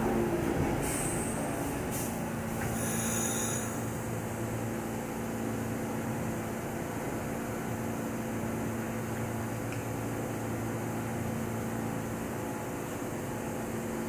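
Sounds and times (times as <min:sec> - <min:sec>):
subway car air conditioning hum: 0:00.0 - 0:14.0.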